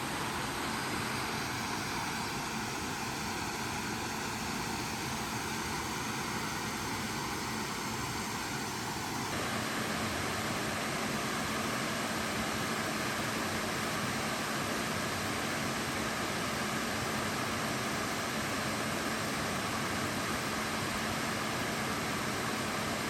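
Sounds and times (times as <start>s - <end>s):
water rushing over a dam: 0.0s - 23.0s.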